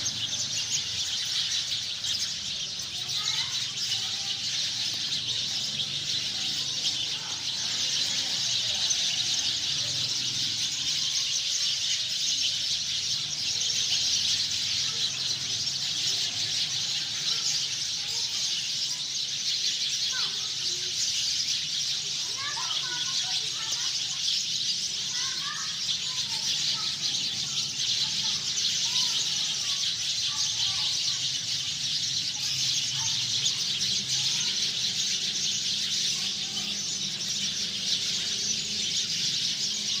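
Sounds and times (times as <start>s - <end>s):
flock of sparrows chirping: 0.0s - 40.0s.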